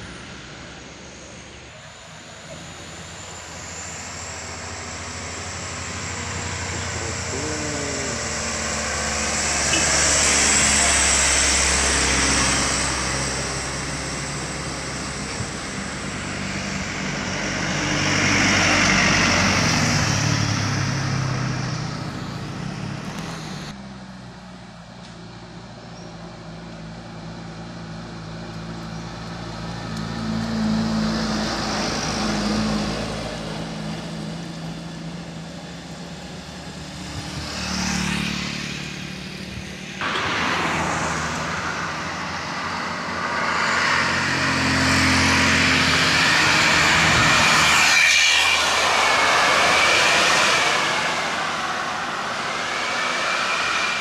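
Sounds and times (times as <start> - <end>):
loaded trucks driving past: 0.0 - 54.0.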